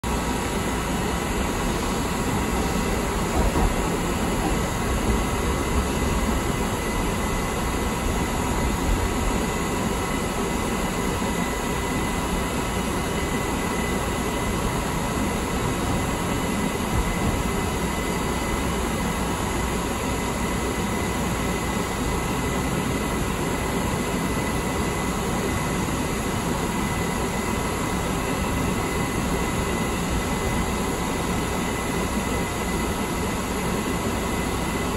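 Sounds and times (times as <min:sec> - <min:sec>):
wheels rumbling on rail: 0:00.1 - 0:34.0.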